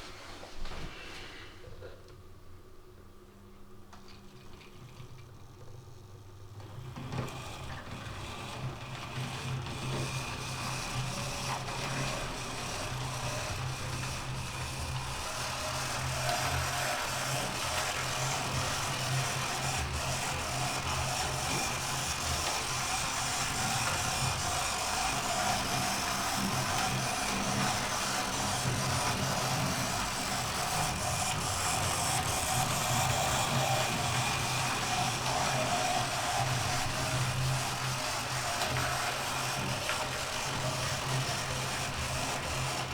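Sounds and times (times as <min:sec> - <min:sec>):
wheels on rails: 0:06.7 - 0:42.9
model train motor hum: 0:06.8 - 0:42.9.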